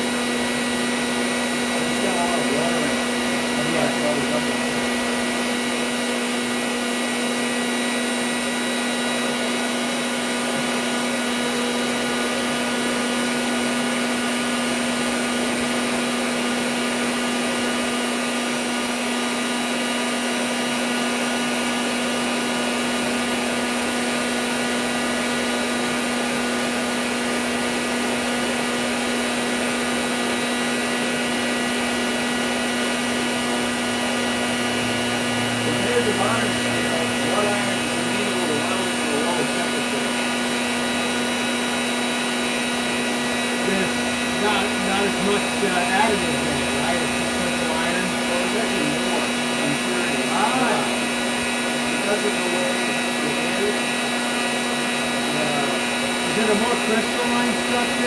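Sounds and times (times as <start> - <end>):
forge blower humming: 0.0 - 58.0.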